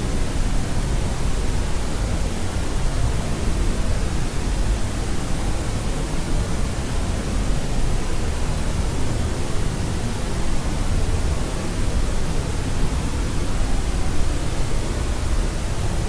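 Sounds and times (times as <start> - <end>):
steady white noise hiss: 0.0 - 16.0.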